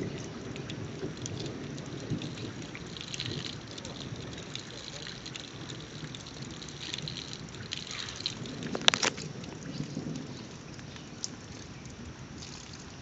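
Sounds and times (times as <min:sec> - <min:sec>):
drops pattering close by: 0:00.0 - 0:12.8
steady rain falling: 0:00.0 - 0:13.0.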